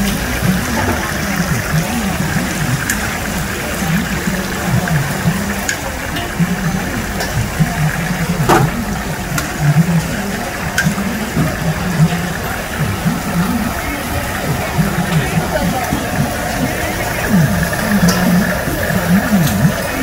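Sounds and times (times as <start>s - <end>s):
hot oil sizzling and bubbling: 0.0s - 20.0s.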